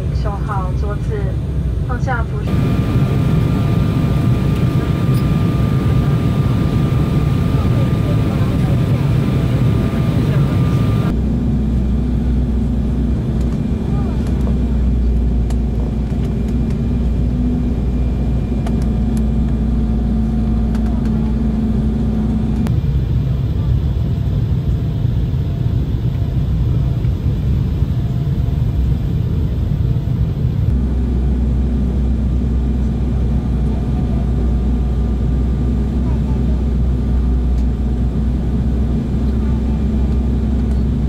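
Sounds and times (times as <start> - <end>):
airliner cabin drone: 0.0 - 41.0.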